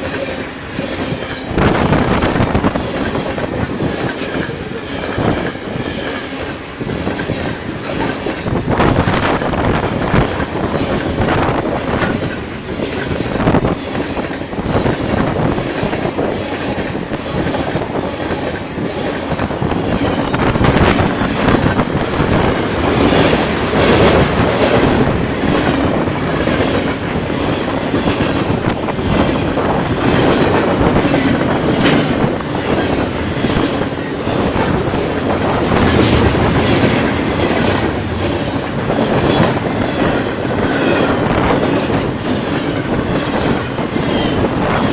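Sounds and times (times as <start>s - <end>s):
train rumble: 0.0s - 44.9s
train wheels clicking over rail joints: 0.0s - 44.9s.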